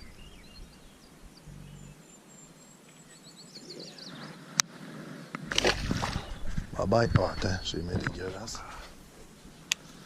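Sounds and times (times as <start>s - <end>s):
birds chirping and trilling: 0.0s - 10.0s.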